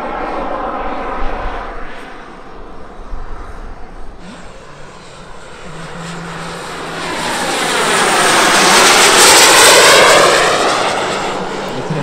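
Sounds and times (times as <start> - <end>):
jet model turbines: 0.0 - 12.0.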